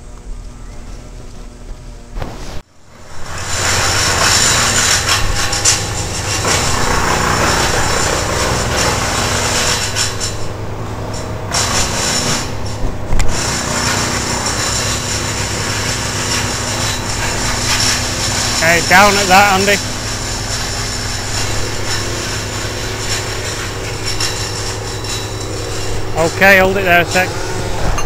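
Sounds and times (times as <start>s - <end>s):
crane engine humming and whining: 0.0s - 28.0s.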